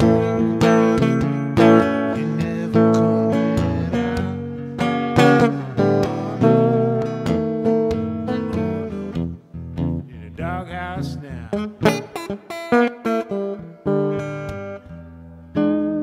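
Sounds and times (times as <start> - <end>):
acoustic guitar blues run: 0.0 - 16.0
guitar chord ringing: 0.0 - 16.0.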